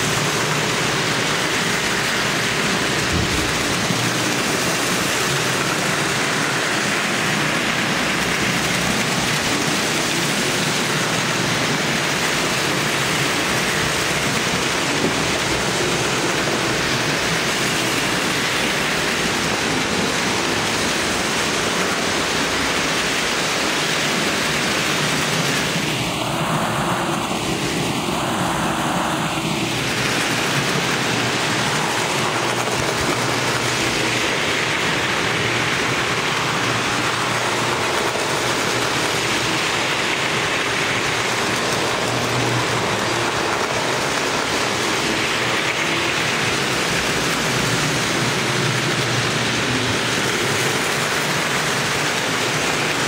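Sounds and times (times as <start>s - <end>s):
toy train whirring rattle: 0.0s - 28.6s, 29.2s - 53.0s.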